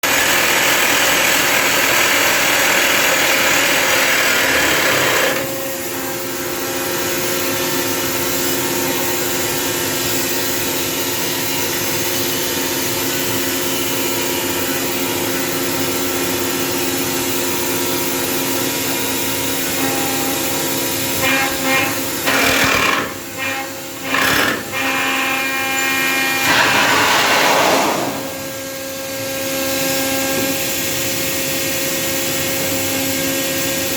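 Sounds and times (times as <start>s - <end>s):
drill rig humming: 0.0s - 31.5s
loud noisy drill bursts: 0.0s - 33.9s.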